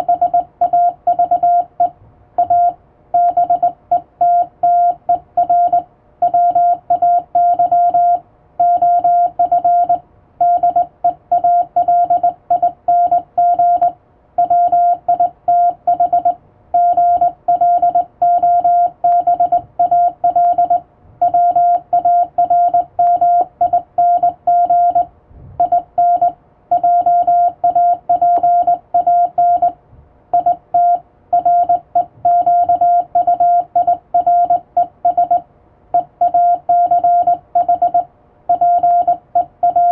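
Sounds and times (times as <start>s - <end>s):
morse code beeping: 0.0s - 35.4s, 36.0s - 39.9s.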